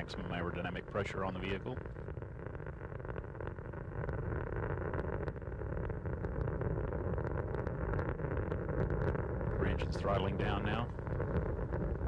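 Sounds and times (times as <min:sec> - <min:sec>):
rocket engines rumbling and crackling: 0:00.0 - 0:12.0.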